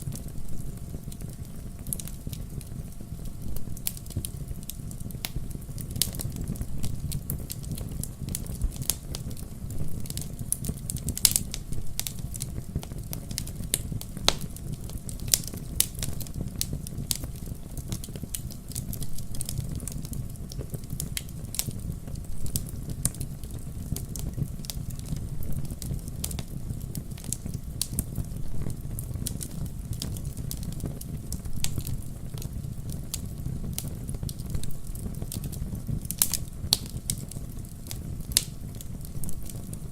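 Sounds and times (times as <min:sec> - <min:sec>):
campfire flames rumbling: 0:00.0 - 0:39.9
wood crackling and popping: 0:00.0 - 0:39.9.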